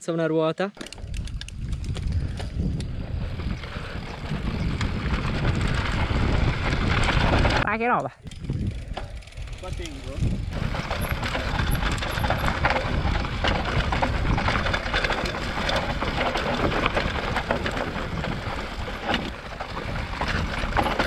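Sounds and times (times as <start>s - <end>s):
bike rattling: 0.8s - 21.0s
tyres on dirt: 0.8s - 21.0s
wind rumbling on microphone: 0.8s - 21.0s.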